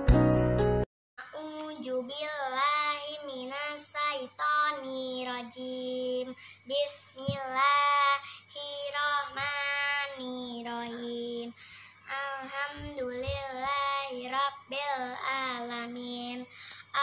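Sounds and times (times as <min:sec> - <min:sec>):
girl chanting recitation: 0:01.2 - 0:17.0.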